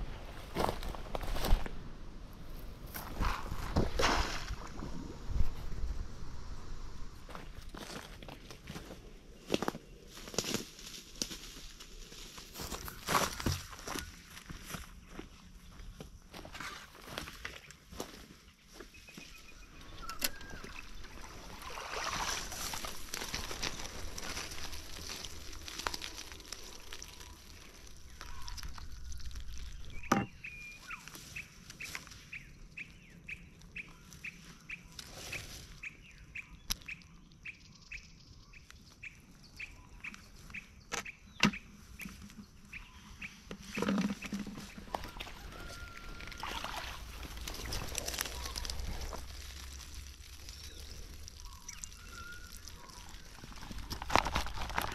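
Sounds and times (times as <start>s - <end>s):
rustling of grass and netting: 0.0s - 36.4s, 39.6s - 54.9s.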